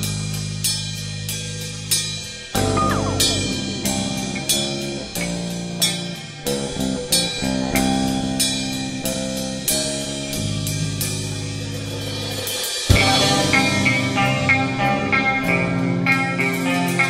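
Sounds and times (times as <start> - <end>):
live rock band playing: 2.5 - 17.0.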